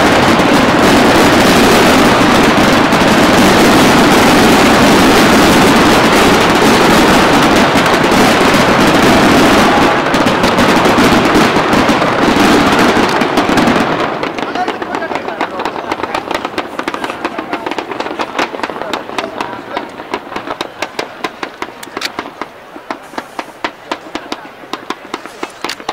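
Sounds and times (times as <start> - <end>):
fireworks bursting and crackling: 0.0 - 25.9.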